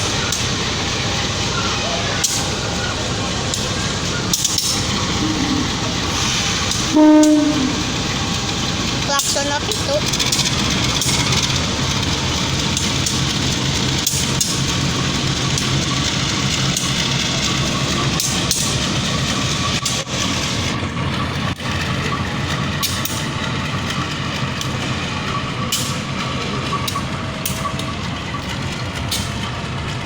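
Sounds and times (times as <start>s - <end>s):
diesel locomotive engine idling: 0.0s - 30.0s.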